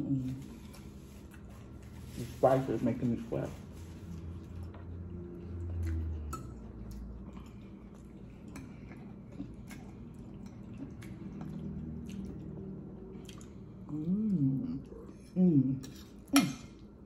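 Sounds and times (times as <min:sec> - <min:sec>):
wet chewing and mouth sounds: 0:00.2 - 0:02.1, 0:03.7 - 0:17.0.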